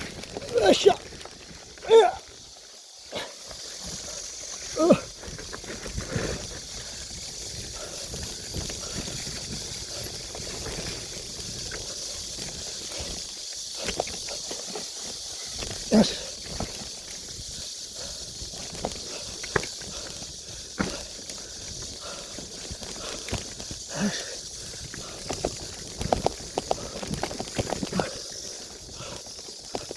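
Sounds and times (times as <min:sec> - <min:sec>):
steady high hiss: 0:00.0 - 0:27.0
bike rumbling over rough trail: 0:00.0 - 0:29.9.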